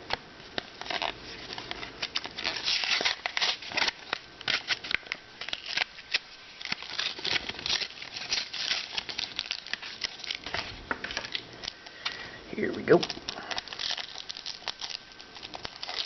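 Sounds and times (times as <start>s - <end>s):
plastic packaging crackling: 0.5s - 16.0s.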